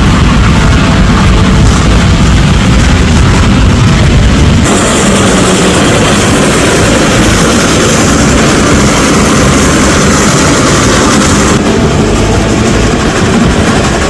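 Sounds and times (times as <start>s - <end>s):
moving train rumble: 0.0s - 14.0s.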